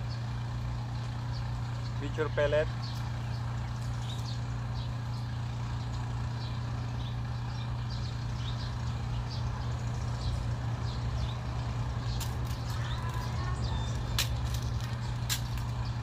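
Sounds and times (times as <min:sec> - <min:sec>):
low mechanical hum: 0:00.0 - 0:16.0
small birds chirping: 0:00.0 - 0:16.0.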